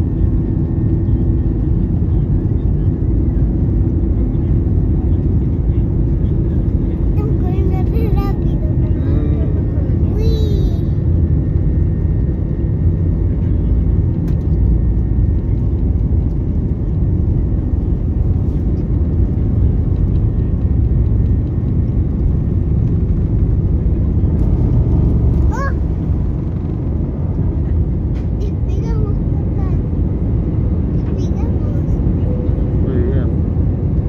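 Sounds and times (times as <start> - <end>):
jet engines rumbling at takeoff: 0.0 - 34.0.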